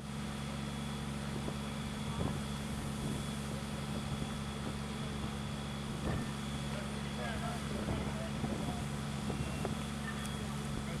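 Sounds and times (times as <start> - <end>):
fire engine running: 0.0 - 11.0.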